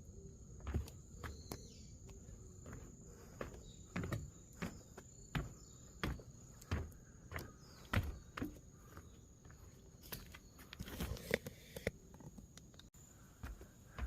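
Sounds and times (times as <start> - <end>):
footsteps on a path: 0.6 - 11.4, 13.4 - 14.0.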